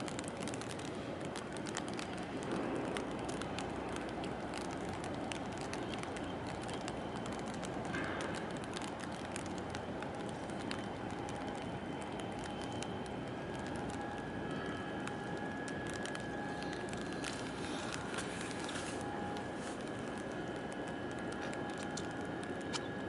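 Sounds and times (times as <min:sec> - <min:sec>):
faint clicks and ticks: 0:00.0 - 0:23.0
harbour background noise: 0:00.0 - 0:23.0.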